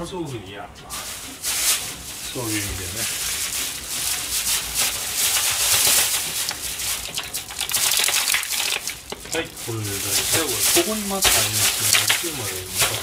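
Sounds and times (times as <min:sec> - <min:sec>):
plastic bag crinkling: 0:00.9 - 0:13.0.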